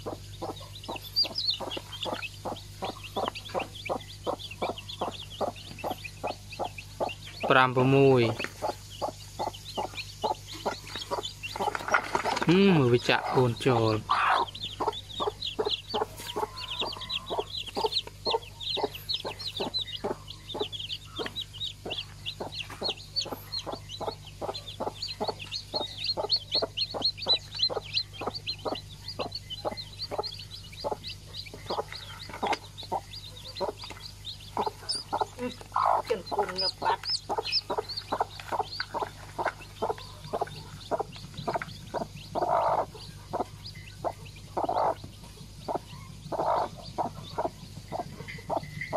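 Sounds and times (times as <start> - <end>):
chicks peeping: 0.0 - 48.9
hen clucking: 0.0 - 48.9.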